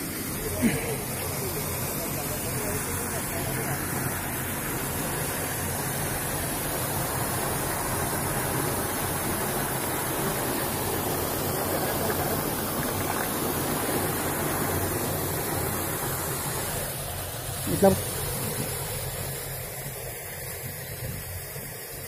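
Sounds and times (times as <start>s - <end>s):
water churning in pit: 0.0s - 22.0s
water rushing over concrete edge: 0.0s - 22.0s.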